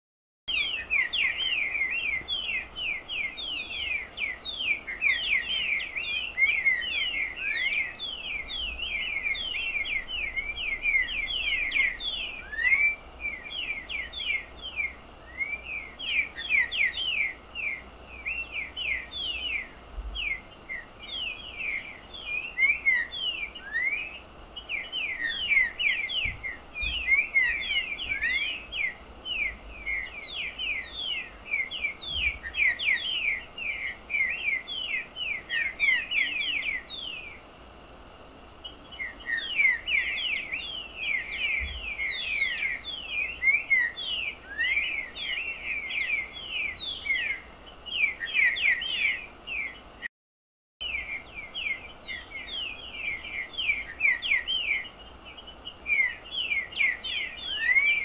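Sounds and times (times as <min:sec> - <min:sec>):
bird twittering whistled notes: 0:00.5 - 0:37.4, 0:38.6 - 0:50.1, 0:50.8 - 0:58.0.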